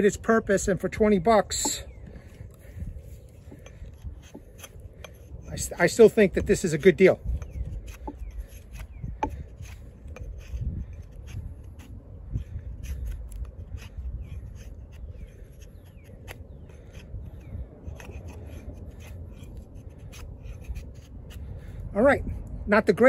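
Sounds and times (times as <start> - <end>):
axe scraping wood: 1.5 - 21.7.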